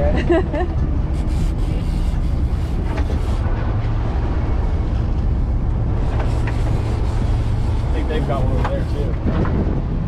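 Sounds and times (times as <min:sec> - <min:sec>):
boat engines humming: 0:00.0 - 0:10.0
water rushing: 0:01.0 - 0:10.0.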